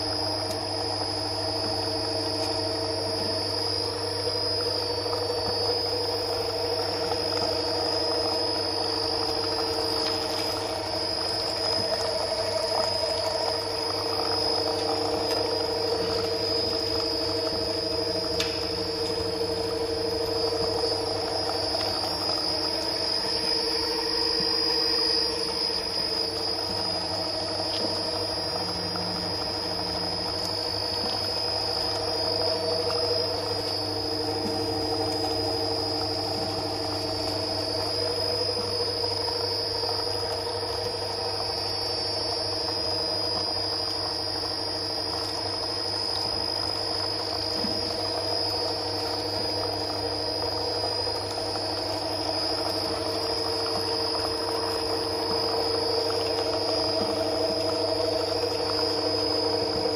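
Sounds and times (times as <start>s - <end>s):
oil press motor droning: 0.0s - 59.9s
steady high whine: 0.0s - 59.9s.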